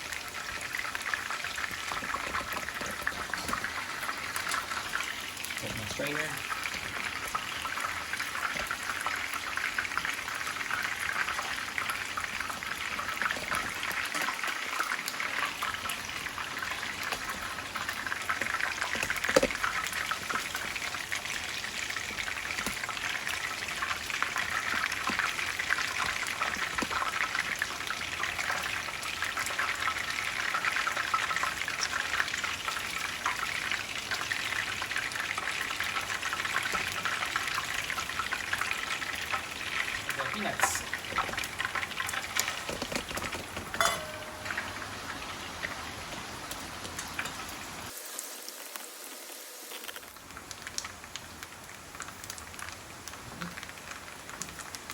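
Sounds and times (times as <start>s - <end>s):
chicken sizzling in hot oil: 0.0s - 54.9s.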